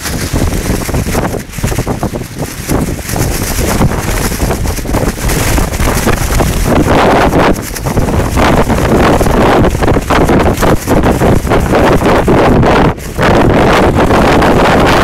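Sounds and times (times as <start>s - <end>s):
plastic poncho flapping: 0.0s - 15.0s
wind buffeting microphone: 0.0s - 15.0s.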